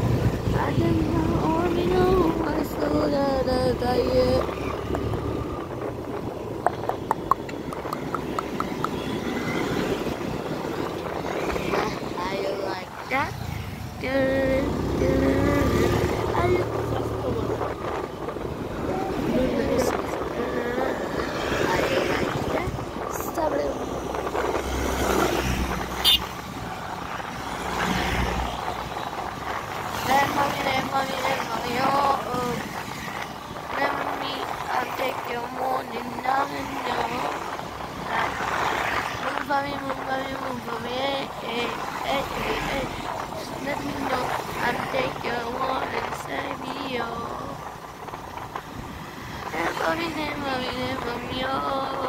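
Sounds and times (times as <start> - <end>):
motorcycle engine and road noise: 0.0 - 52.0
wind rushing over microphone: 0.0 - 52.0.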